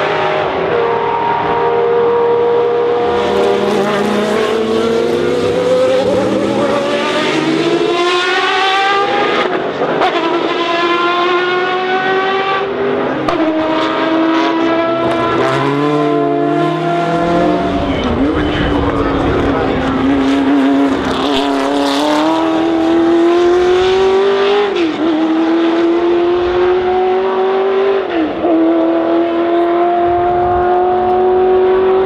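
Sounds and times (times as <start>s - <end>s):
racing car engine revving: 0.0s - 32.0s.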